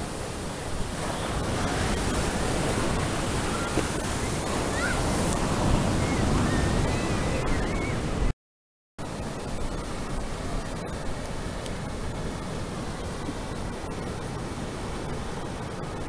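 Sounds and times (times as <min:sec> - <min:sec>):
ocean surf breaking: 0:00.0 - 0:08.3, 0:09.0 - 0:16.0.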